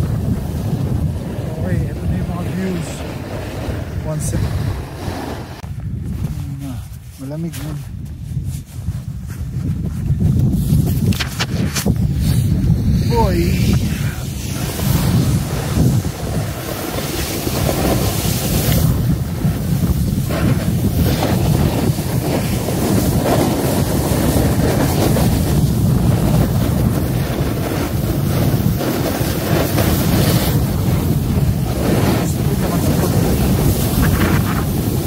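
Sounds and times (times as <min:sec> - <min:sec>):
snowboard sliding on snow: 0:00.0 - 0:35.0
wind buffeting microphone: 0:00.0 - 0:35.0.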